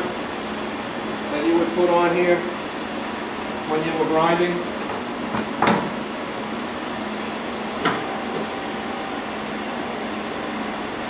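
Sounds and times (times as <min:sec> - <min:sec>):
grinder machine hum: 0:00.0 - 0:11.0.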